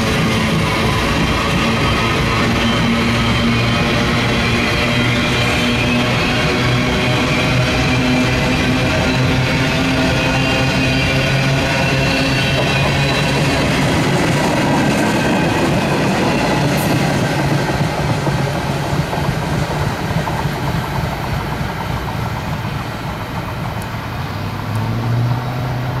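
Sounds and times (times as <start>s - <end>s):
freight train wheels rattling: 0.0s - 25.1s.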